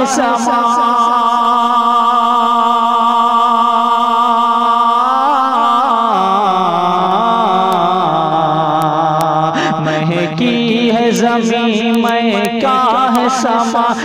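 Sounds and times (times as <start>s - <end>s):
man singing chant-like song: 0.0s - 14.0s.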